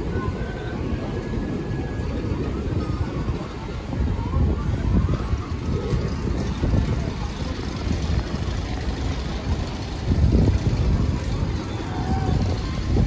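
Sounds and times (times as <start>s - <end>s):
amusement park low rumble: 0.0s - 13.0s.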